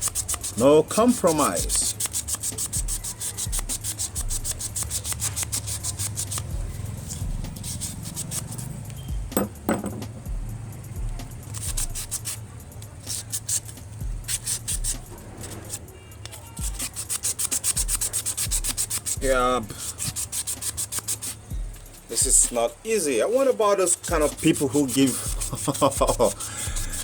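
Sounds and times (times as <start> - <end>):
hand scrubbing metal part: 0.0 - 9.5, 11.4 - 12.4, 13.0 - 27.0.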